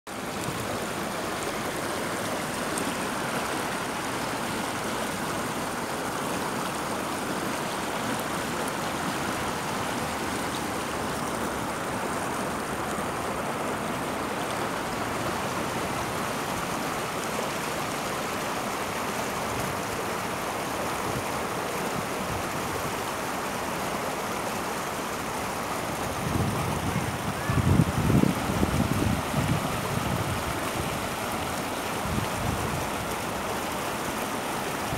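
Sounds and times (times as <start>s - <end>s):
stream water flowing: 0.1s - 34.9s.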